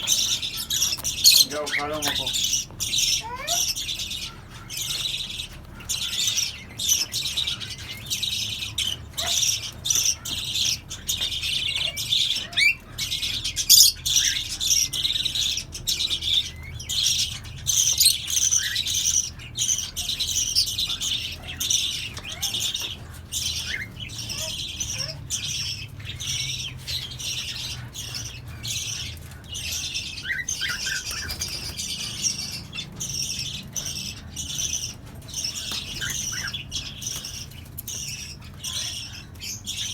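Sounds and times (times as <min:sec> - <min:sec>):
flock of birds chirping and squawking: 0:00.0 - 0:39.9.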